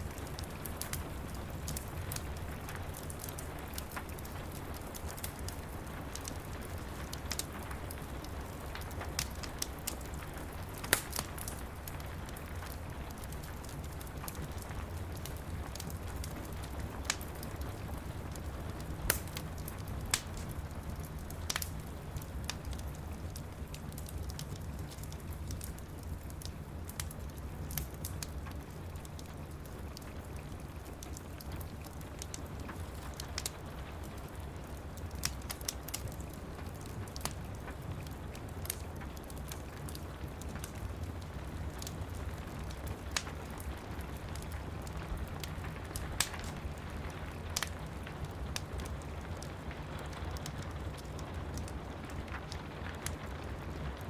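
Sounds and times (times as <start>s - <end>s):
soft rain hiss: 0.0s - 54.0s
wood fire crackling and popping: 0.0s - 54.0s.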